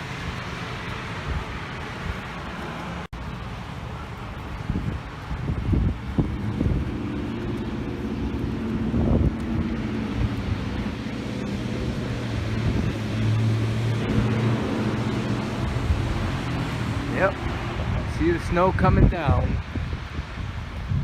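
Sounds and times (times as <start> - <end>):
wind gusting on microphone: 4.0 - 21.0.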